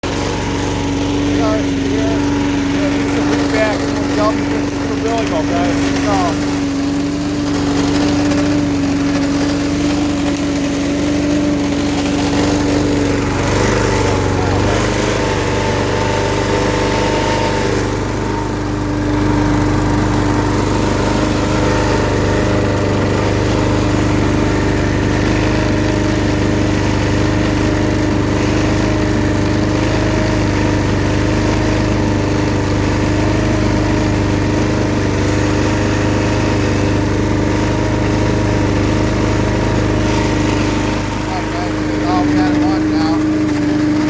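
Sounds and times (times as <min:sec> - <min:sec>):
leaf vacuum engine running: 0:00.0 - 0:44.0
rushing fan noise: 0:00.0 - 0:44.0.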